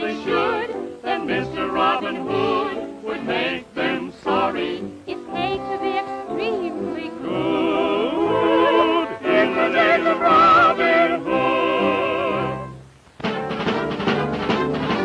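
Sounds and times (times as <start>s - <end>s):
operatic singing with vibrato: 0.0s - 12.9s
orchestral accompaniment: 0.0s - 15.0s.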